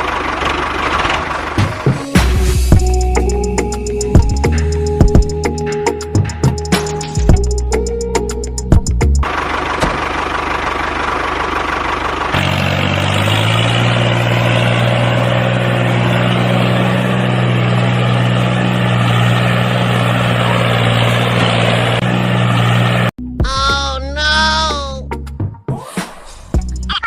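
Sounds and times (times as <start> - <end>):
engine idling: 0.0 - 23.1.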